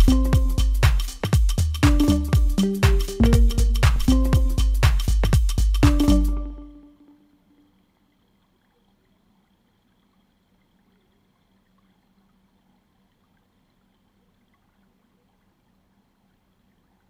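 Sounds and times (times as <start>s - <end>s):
faint water noise: 0.0s - 17.0s
faint low hum: 1.9s - 17.0s.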